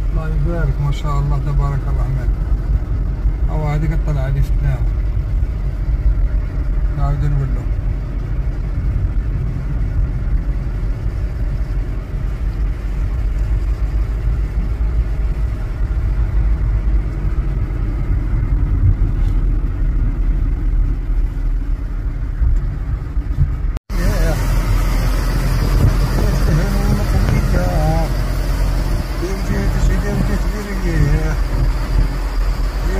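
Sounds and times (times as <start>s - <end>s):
car cabin road and engine rumble: 0.0s - 32.9s.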